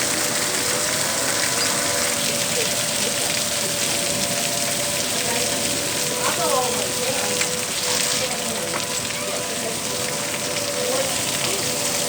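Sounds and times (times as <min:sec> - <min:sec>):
hail and rain pelting vehicle: 0:00.0 - 0:12.0.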